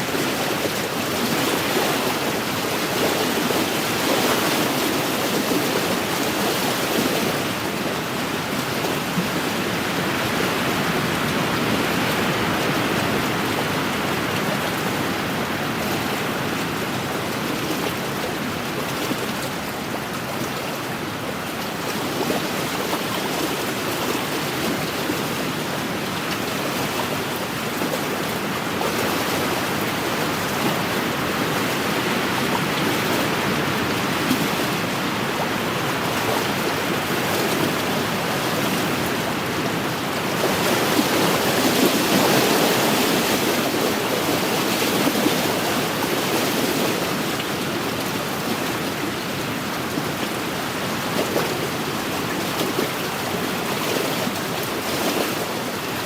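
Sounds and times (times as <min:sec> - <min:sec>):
waves washing against shore: 0:00.0 - 0:56.0.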